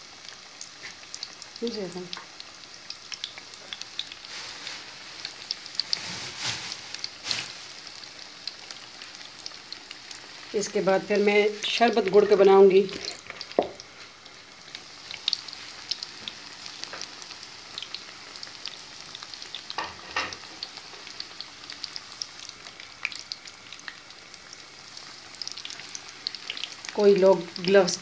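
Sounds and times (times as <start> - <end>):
hot oil sizzling and crackling: 0.0 - 28.0.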